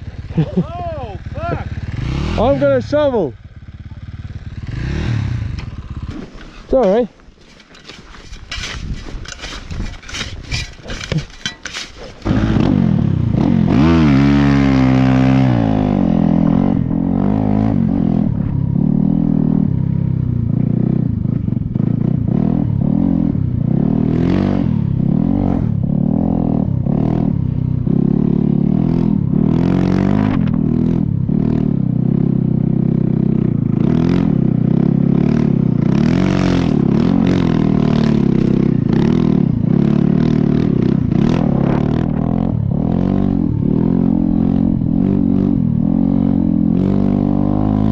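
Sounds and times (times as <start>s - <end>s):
dirt bike engine revving: 0.2s - 47.9s.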